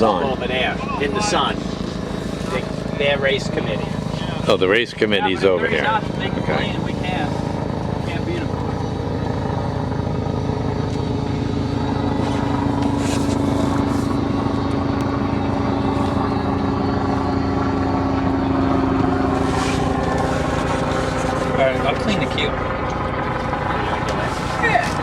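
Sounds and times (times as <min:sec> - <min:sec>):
boat engine running: 0:00.0 - 0:25.0
steady hum: 0:00.0 - 0:25.0.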